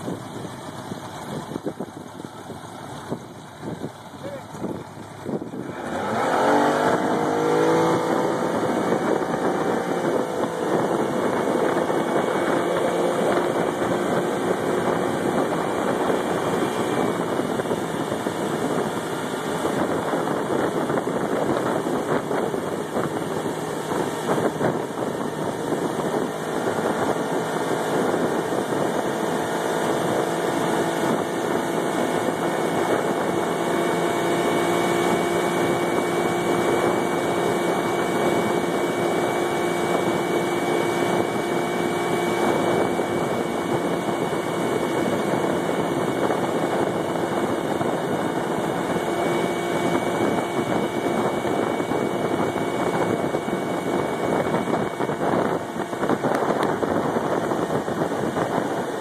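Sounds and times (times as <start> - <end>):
motorboat engine: 0.0 - 59.0
wake rushing: 4.4 - 59.0.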